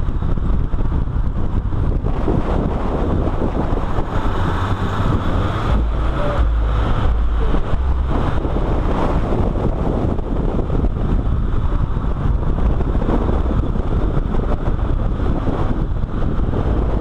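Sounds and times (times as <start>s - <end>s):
car engine running: 0.0s - 17.0s
road noise: 0.0s - 17.0s
wind buffeting camera: 0.0s - 17.0s.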